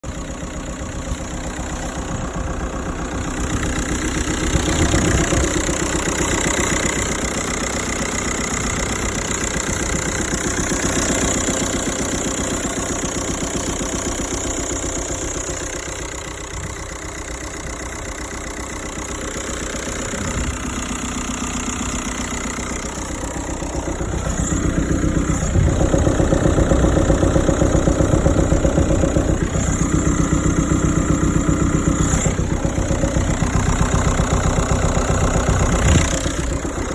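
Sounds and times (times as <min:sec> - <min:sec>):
car engine knocking: 0:00.0 - 0:36.9.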